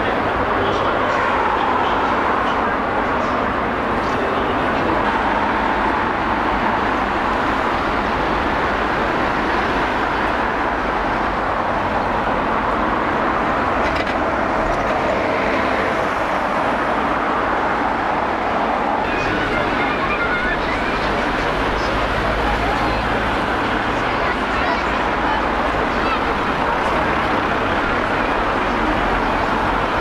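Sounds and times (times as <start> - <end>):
bus going by: 0.0 - 30.0
cars going by: 0.0 - 30.0
city street traffic: 0.0 - 30.0.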